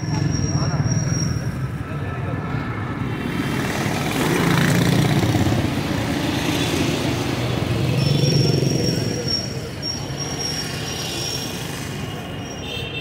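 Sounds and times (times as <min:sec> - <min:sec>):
motorcycle engines passing: 0:00.0 - 0:12.4
street traffic: 0:00.0 - 0:13.0.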